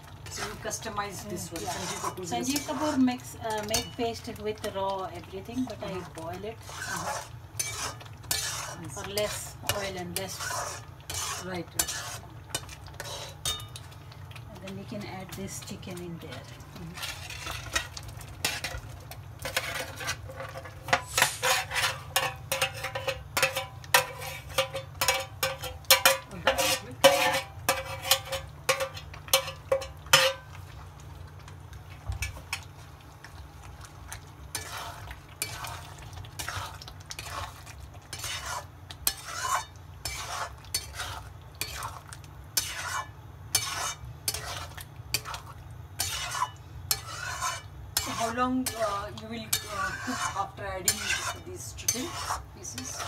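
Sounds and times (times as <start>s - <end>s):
metal spatula scraping a wok: 0.2s - 4.8s, 5.5s - 13.8s, 15.6s - 30.5s, 34.5s - 42.0s, 42.6s - 53.0s.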